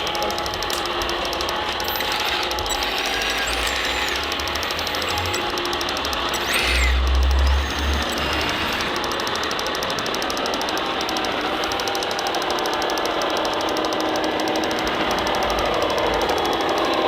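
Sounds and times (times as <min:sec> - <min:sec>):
motor humming and whining: 0:00.0 - 0:17.0
small electric motors whirring: 0:00.0 - 0:17.0.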